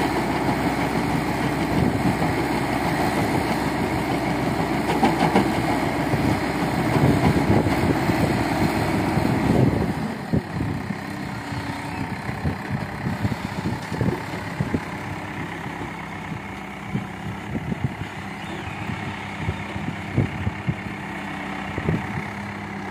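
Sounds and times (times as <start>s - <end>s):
diesel engine working hard: 0.0s - 22.9s.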